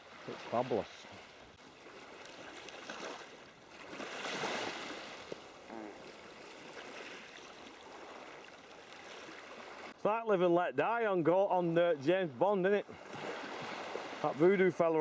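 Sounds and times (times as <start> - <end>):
small waves washing on shore: 0.0 - 10.1, 11.9 - 15.0.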